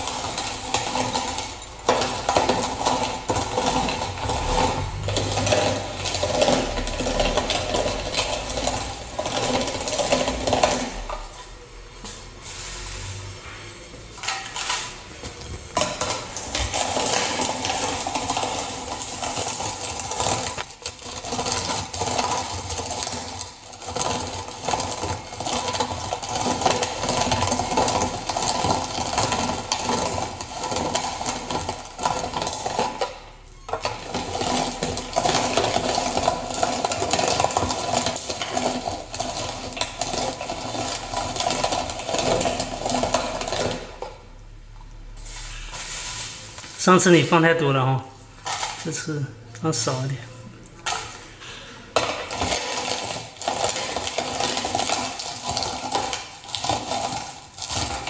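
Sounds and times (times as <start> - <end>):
grinder crushing dried chillies: 0.0 - 13.3, 14.0 - 50.2, 50.8 - 58.0.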